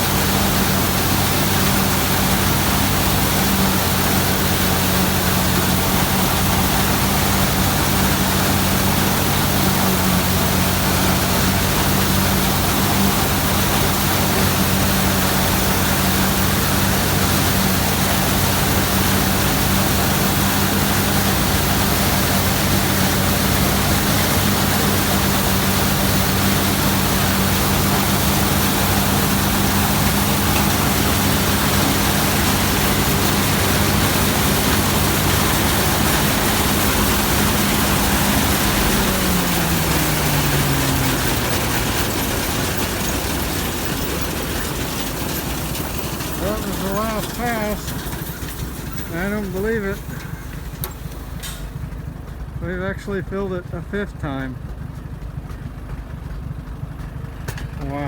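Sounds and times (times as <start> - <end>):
threshing machinery rushing: 0.0 - 52.8
combine harvester engine hum: 0.0 - 58.0.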